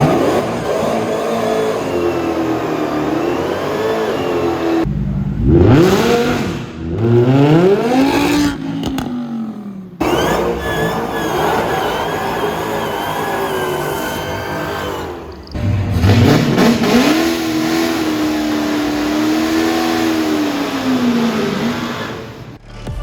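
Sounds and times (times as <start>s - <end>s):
car engines revving: 0.0s - 22.6s.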